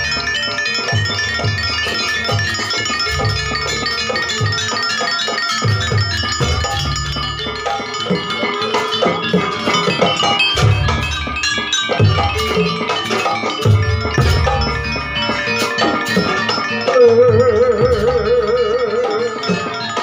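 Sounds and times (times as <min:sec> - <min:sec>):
drum strokes: 0:00.0 - 0:20.0
ringing mallet percussion: 0:00.0 - 0:20.0.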